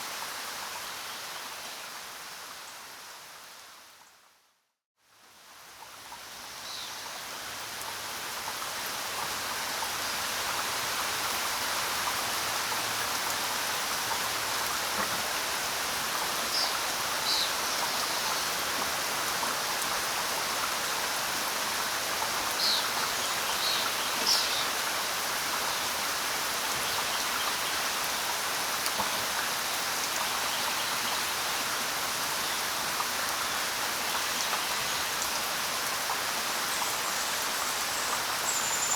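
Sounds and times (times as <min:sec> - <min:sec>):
rain patter: 0:05.0 - 0:38.9.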